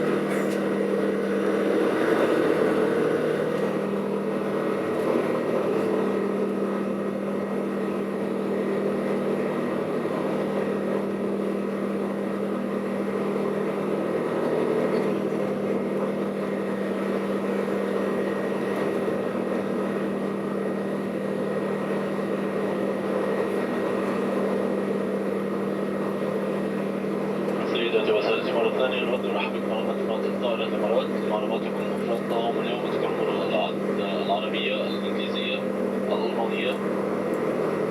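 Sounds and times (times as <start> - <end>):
airplane cabin rumble: 0.0 - 37.9.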